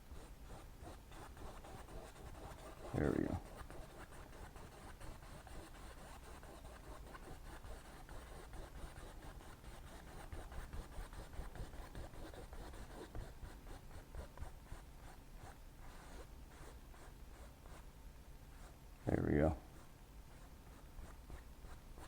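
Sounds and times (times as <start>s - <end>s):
paintbrush strokes on canvas: 0.0s - 17.9s, 18.5s - 22.0s.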